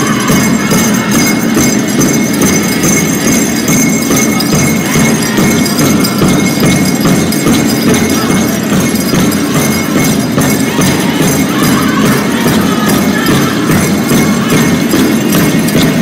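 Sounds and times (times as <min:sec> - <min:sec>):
drum group drumming and singing: 0:00.0 - 0:16.0
jingling bells and metal cones: 0:00.0 - 0:16.0.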